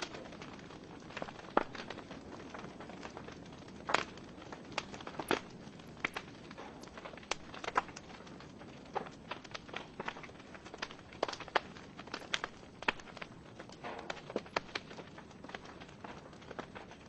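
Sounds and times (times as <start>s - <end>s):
low hiss of flames: 0.0s - 17.0s
wood fire crackling and popping: 0.0s - 17.0s.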